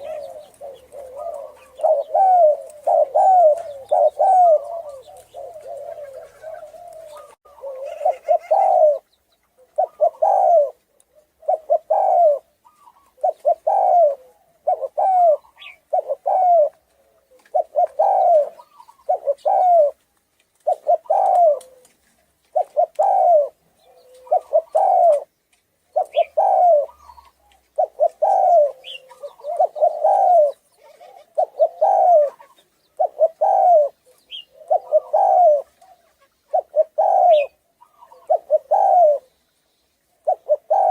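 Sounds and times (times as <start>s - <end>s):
dove cooing: 0.0s - 20.0s, 20.6s - 25.3s, 25.9s - 39.4s, 40.1s - 40.9s.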